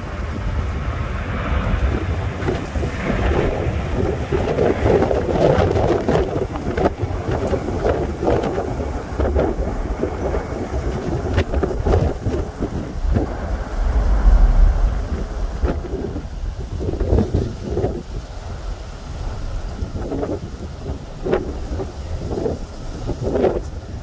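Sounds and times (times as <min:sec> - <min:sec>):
jet engines roaring: 0:00.0 - 0:24.0
wind buffeting microphone: 0:00.0 - 0:24.0.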